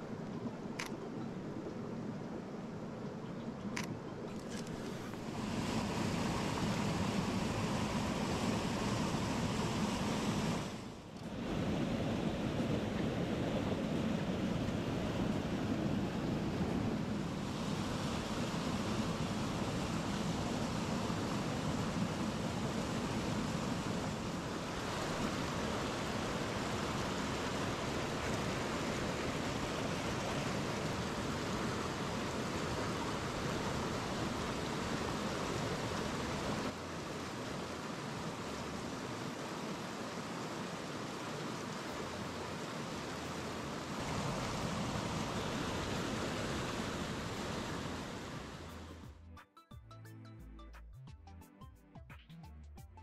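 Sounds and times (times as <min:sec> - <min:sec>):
mountain stream rushing: 0:00.0 - 0:49.0.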